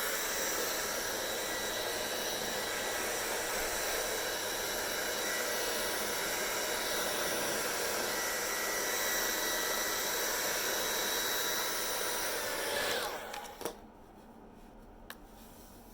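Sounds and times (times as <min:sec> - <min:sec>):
hair dryer blowing air: 0:00.0 - 0:13.8.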